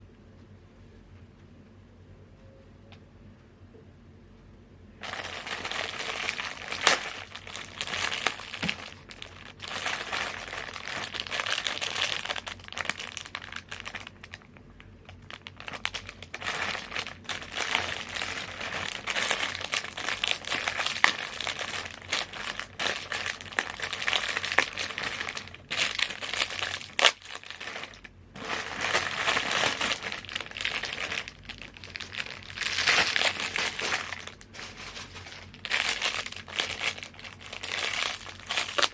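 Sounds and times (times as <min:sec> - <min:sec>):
plastic chip bag crinkling: 0:05.0 - 0:38.9.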